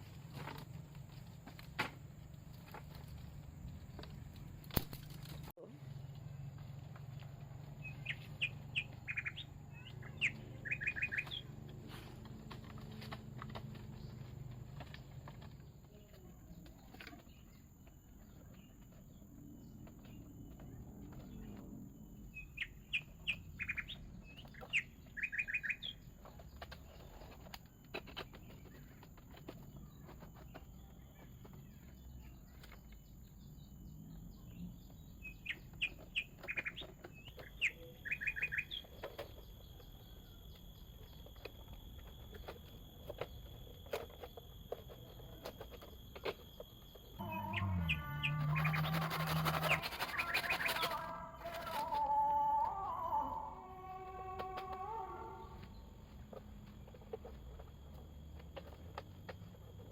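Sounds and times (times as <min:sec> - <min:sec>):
bird chirping: 0:07.7 - 0:59.9.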